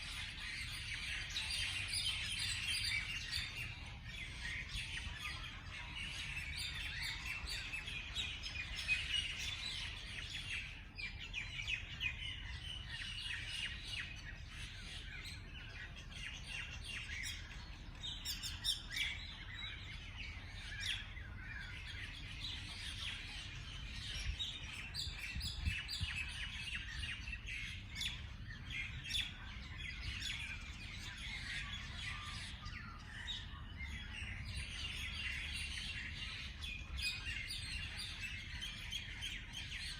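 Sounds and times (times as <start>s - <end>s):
songbirds chirping in chorus: 0.0s - 39.9s.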